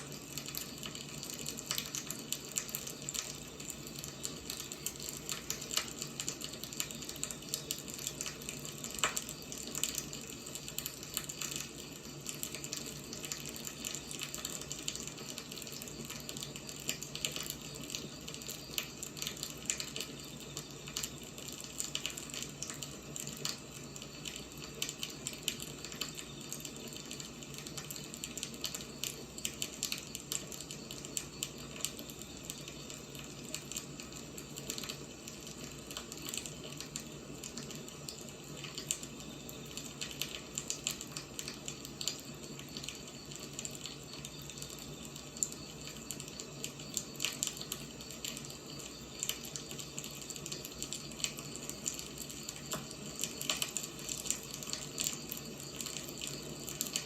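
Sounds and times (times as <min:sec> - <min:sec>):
firewood burning and crackling: 0:00.0 - 0:57.0.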